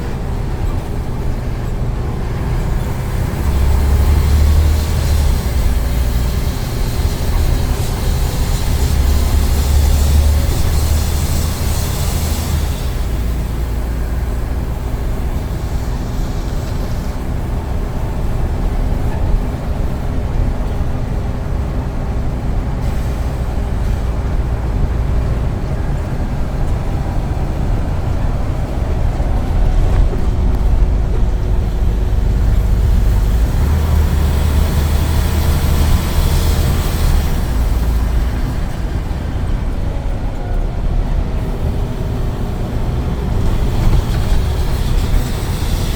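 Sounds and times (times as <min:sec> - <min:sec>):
bus engine rumbling: 0:00.0 - 0:45.9
faint engine whine: 0:00.0 - 0:45.9.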